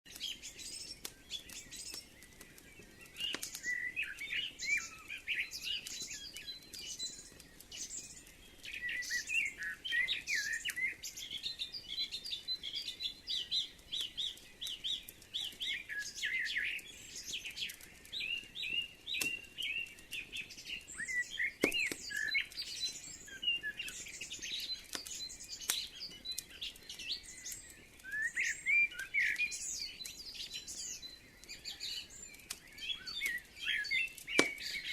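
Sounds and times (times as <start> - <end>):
songbirds chirping and singing: 0.1 - 34.9
wood fire crackling: 0.1 - 34.9.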